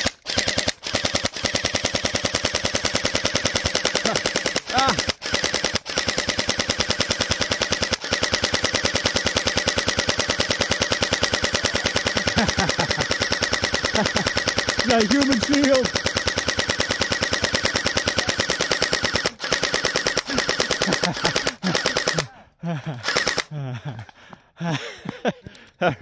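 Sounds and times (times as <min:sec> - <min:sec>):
gel blaster firing full auto: 0:00.0 - 0:22.3, 0:23.0 - 0:23.5.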